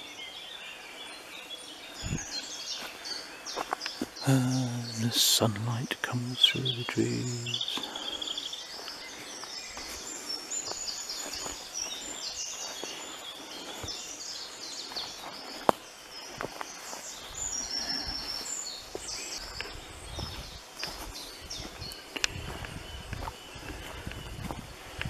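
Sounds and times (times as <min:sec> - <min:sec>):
birds chirping and trilling: 0:00.0 - 0:25.0
footsteps on path: 0:00.9 - 0:04.3, 0:06.6 - 0:25.0.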